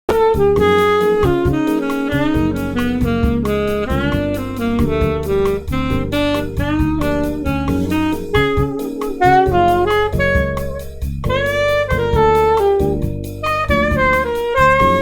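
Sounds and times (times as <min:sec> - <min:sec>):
backing track with drums: 0:00.1 - 0:15.0
saxophone improvising jazz: 0:00.1 - 0:15.0.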